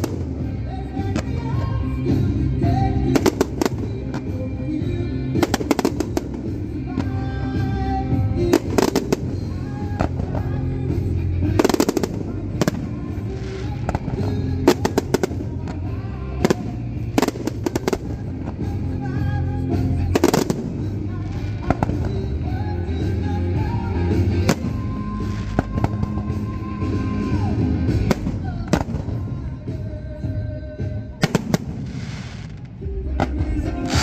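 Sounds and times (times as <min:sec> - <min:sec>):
fireworks bursting: 0:00.0 - 0:34.0
music playing: 0:00.0 - 0:34.0.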